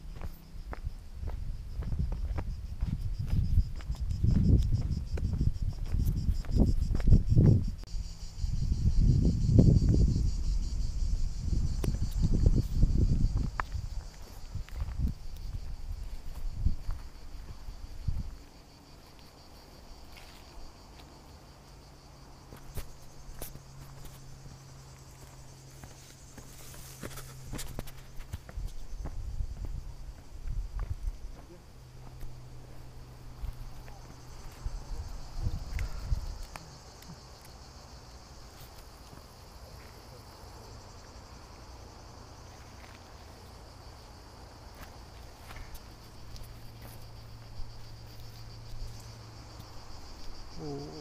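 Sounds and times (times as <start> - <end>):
footsteps on stony ground: 0.0 - 7.7, 11.6 - 21.3, 22.4 - 40.1, 41.0 - 50.4
insects chirring: 0.0 - 51.0.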